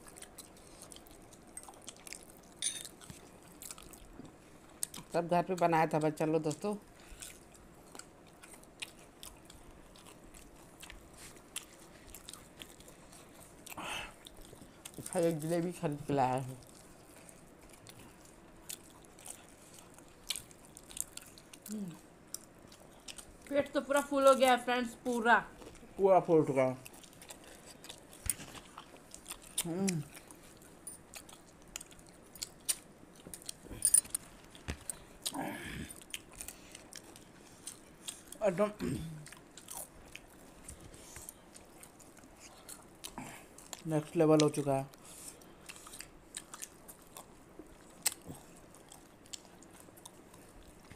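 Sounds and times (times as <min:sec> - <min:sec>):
people chewing crisp snacks: 0:00.0 - 0:50.9.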